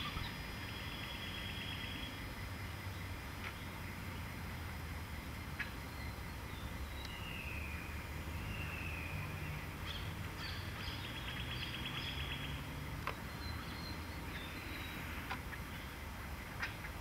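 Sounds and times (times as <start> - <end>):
birdsong: 0.0 - 17.0
steady low rumble: 0.0 - 17.0.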